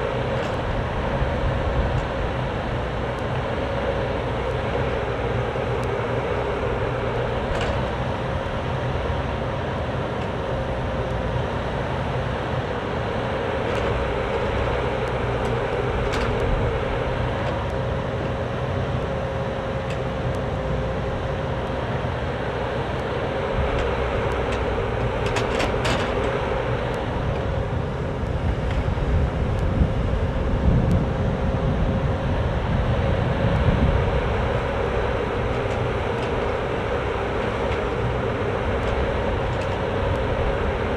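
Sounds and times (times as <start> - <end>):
mini excavator running: 0.0 - 40.9.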